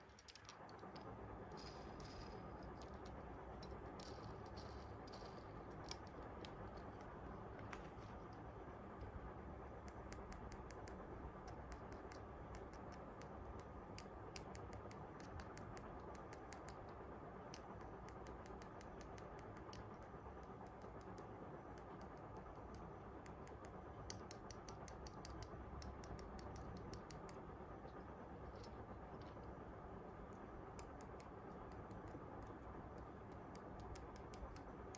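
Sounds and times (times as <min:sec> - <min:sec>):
low background hum: 0:00.0 - 0:34.9
small clicks and ticks: 0:00.0 - 0:34.9.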